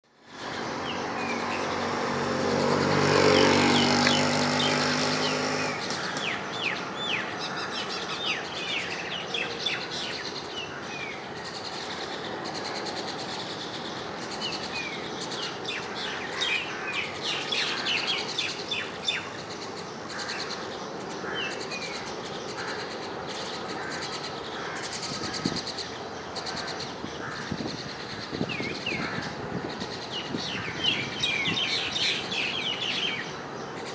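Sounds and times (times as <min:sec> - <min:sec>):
birds chirping and calling: 0:00.3 - 0:33.9.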